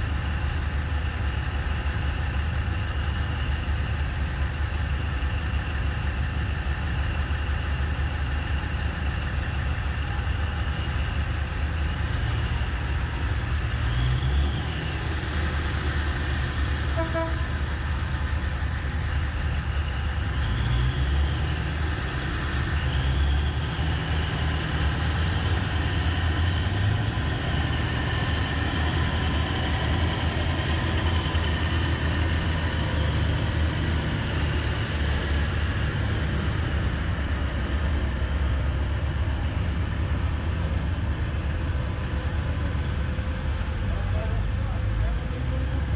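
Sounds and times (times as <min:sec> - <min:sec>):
diesel engine rumbling and revving: 0:00.0 - 0:45.9.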